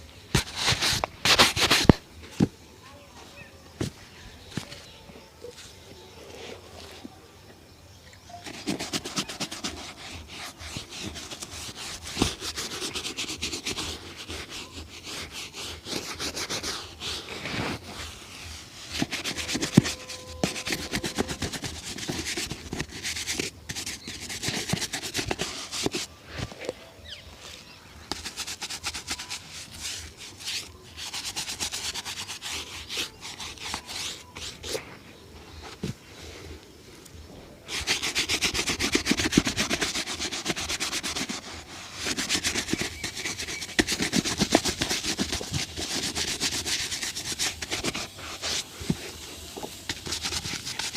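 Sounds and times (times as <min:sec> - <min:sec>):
shoe shine rubbing strokes: 0:00.3 - 0:02.0, 0:08.3 - 0:35.9, 0:37.6 - 0:50.9.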